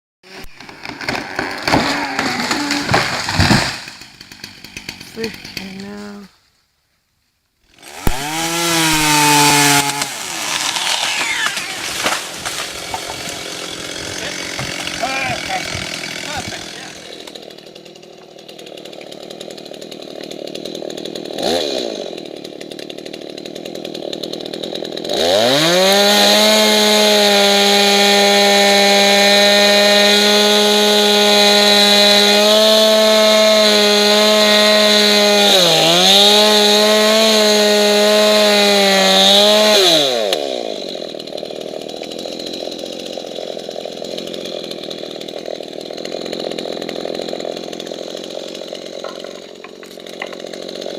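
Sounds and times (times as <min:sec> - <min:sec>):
chainsaw engine revving: 0:00.3 - 0:06.2, 0:07.6 - 0:50.9.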